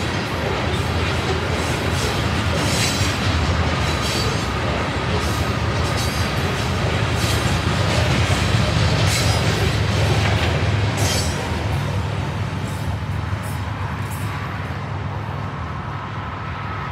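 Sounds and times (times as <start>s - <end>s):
wheels clicking over rails: 0.0s - 14.4s
freight train rumbling past: 0.0s - 16.9s.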